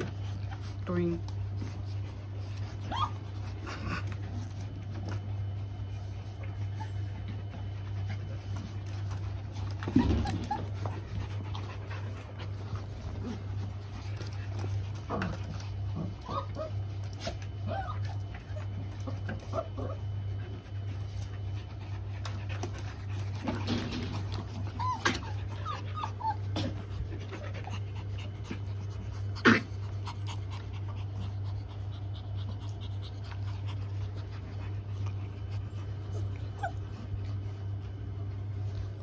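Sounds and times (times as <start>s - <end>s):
puppies whimpering and squeaking: 0.0s - 39.0s
steady low hum: 0.0s - 39.0s.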